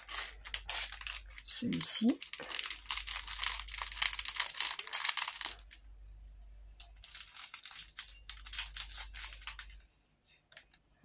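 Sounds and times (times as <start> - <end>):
plastic packet crinkling: 0.0 - 5.8, 6.8 - 9.8.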